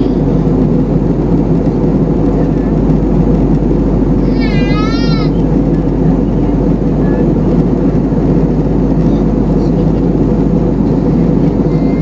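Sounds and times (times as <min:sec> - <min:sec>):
jet cabin engine rumble: 0:00.0 - 0:12.0.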